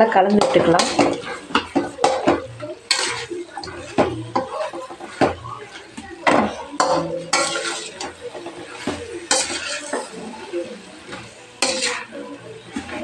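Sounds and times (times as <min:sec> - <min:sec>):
metal spatula scraping pan: 0:00.0 - 0:13.0.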